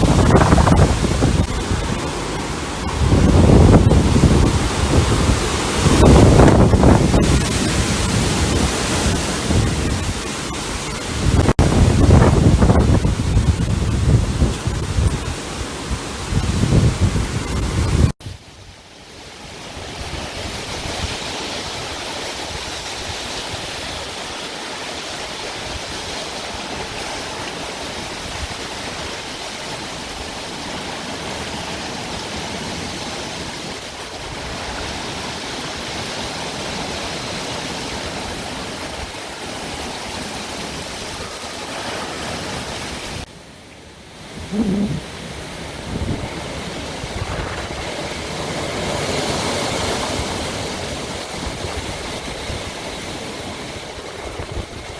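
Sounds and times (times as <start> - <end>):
rain and wind hissing: 0.0 - 54.9.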